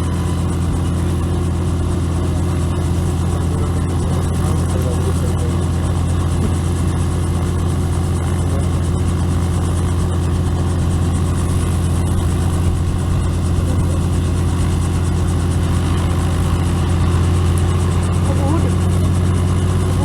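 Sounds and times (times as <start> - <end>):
helicopter running: 0.0 - 20.0.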